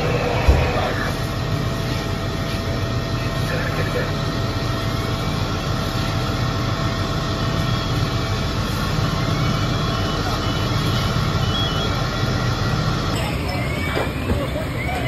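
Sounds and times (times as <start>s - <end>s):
engine low mechanical drone: 0.0s - 15.0s.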